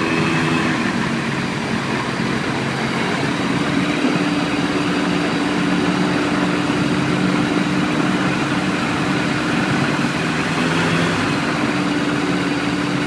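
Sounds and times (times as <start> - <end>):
aircraft engine and propeller hum: 0.0 - 13.0.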